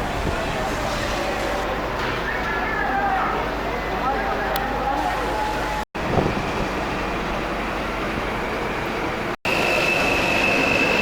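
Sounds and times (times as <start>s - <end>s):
train noise: 0.0s - 11.0s.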